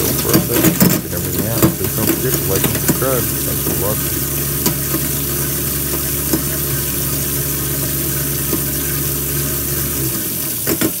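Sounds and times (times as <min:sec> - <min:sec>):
garbage disposal motor humming: 0:00.0 - 0:11.0
tap water pouring into drain: 0:00.0 - 0:11.0.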